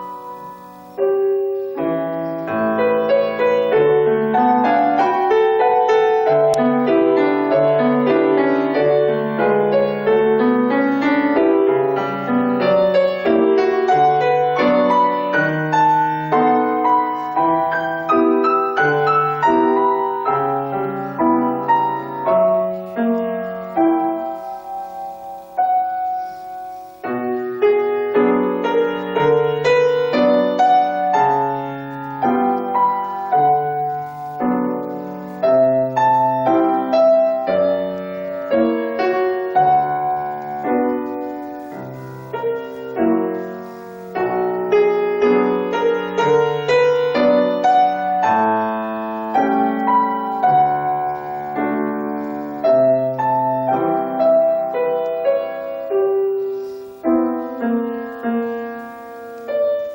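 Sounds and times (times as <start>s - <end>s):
solo piano melody: 0.0s - 59.9s.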